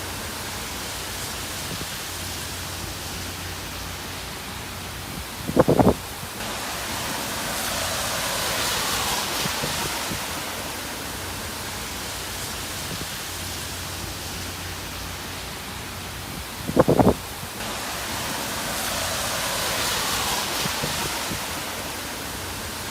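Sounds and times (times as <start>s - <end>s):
wind and rain rushing: 0.0s - 22.9s.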